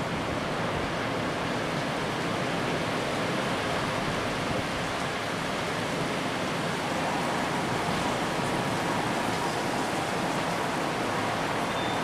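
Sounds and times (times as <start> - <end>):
rain: 0.0 - 12.0
wind: 0.0 - 12.0.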